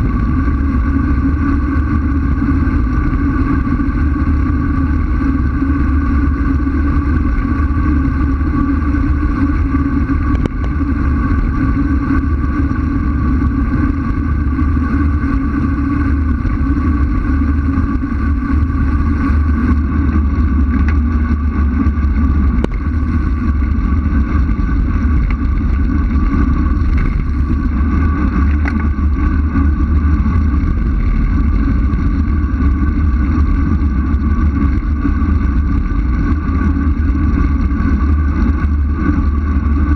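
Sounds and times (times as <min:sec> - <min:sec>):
tyre road rumble: 0:00.0 - 0:39.9
wind buffeting microphone: 0:00.0 - 0:39.9.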